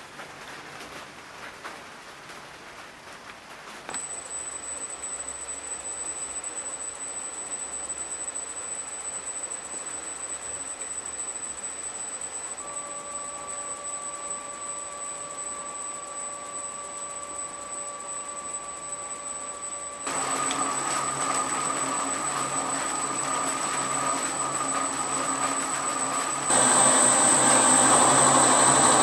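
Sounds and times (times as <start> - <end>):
milling machine spindle humming: 4.0 - 29.0.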